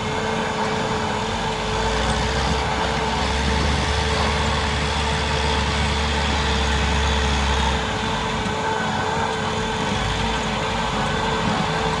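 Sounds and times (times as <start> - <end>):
trencher engine droning: 0.0 - 12.0.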